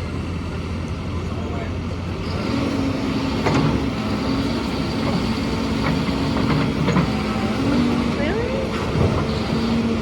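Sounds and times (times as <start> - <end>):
heavy machinery engine humming: 0.0 - 10.0.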